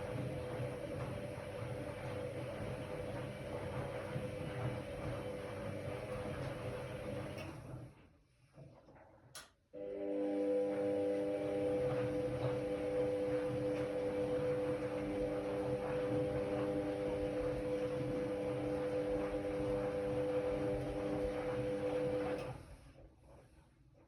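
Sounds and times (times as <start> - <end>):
washing machine drum motor humming: 0.0 - 8.1, 9.8 - 24.0.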